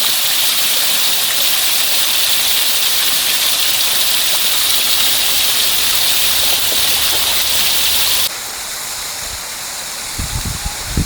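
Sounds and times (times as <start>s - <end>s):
flowing water rushing: 0.0s - 10.2s.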